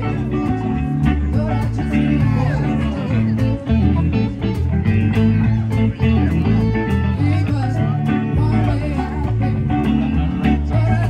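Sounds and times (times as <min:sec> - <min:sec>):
guitar with bent notes: 0:00.0 - 0:11.0
live blues-rock band playing: 0:00.0 - 0:11.0.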